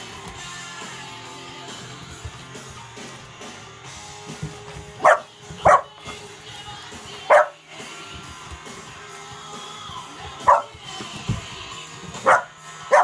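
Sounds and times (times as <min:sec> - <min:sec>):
rock music with guitar: 0:00.0 - 0:13.0.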